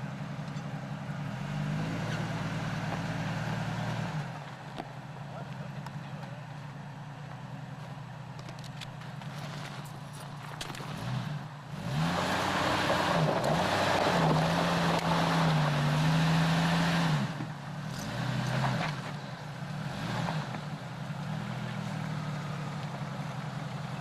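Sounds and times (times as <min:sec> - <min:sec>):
car engine revving: 0:01.0 - 0:06.4, 0:08.4 - 0:24.0.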